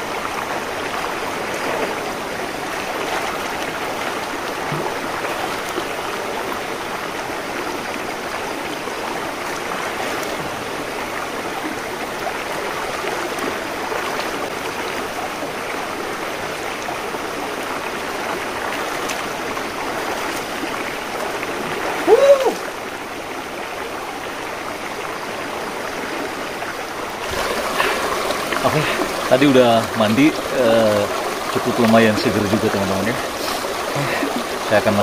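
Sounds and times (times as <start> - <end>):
river rushing over rocks: 0.0 - 35.0.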